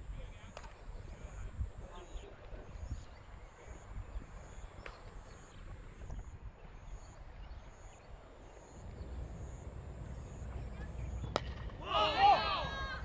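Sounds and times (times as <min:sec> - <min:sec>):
wind rumbling on microphone: 0:00.0 - 0:11.8
faint outdoor background noise: 0:00.0 - 0:13.0.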